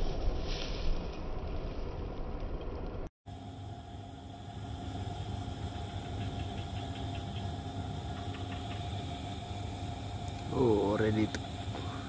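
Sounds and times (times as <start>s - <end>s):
low machine hum: 0.0s - 12.0s
constant tone: 2.0s - 12.0s.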